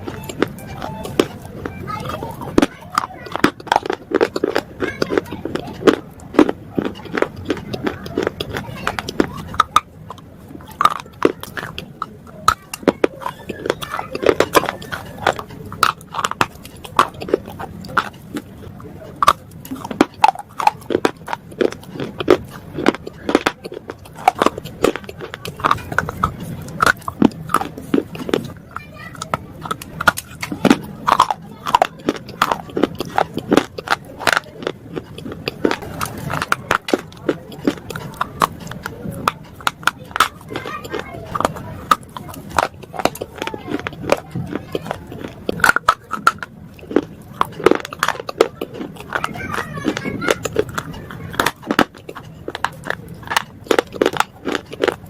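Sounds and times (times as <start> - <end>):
biting and chewing crunches: 0.0 - 55.0.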